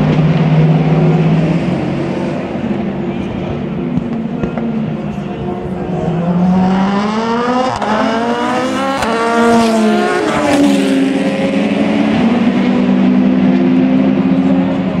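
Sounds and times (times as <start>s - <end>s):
race cars accelerating past: 0.0s - 15.0s.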